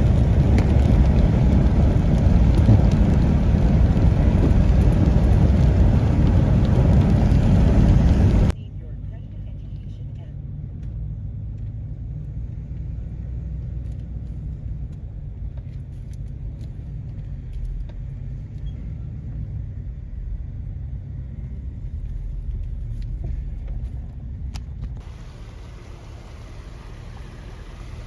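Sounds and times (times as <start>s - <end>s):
van road rumble from inside: 0.0s - 28.0s.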